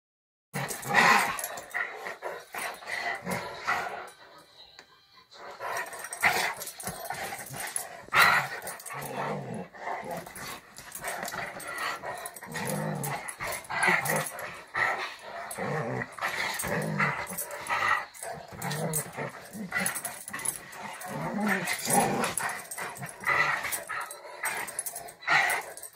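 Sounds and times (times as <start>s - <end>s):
dogs growling: 0.6s - 4.2s, 5.4s - 25.9s.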